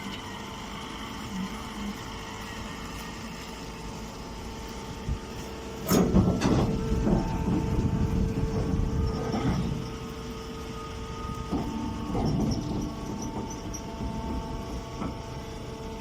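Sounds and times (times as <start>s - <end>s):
baler motor hum and whine: 0.0s - 16.0s
press clanking and rumbling: 0.0s - 16.0s.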